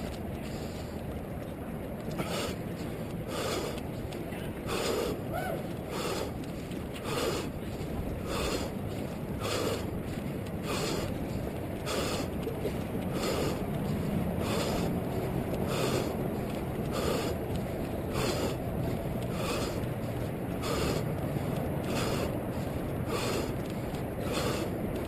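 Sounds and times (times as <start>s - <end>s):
low rumble of wind: 0.0s - 25.0s
runner breathing: 0.0s - 25.0s.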